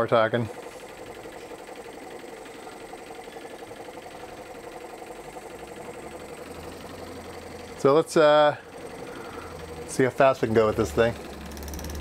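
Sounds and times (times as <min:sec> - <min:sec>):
geared motor rattling: 0:00.0 - 0:12.0.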